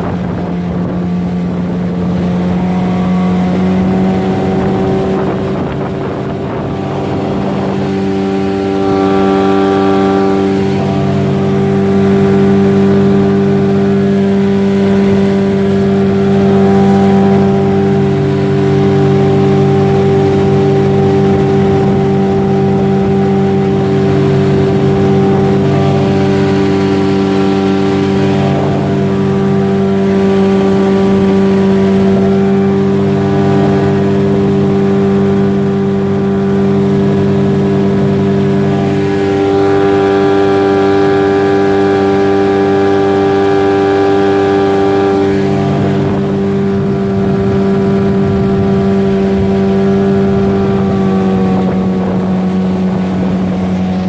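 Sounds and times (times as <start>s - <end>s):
outboard boat motor running: 0.0s - 54.0s.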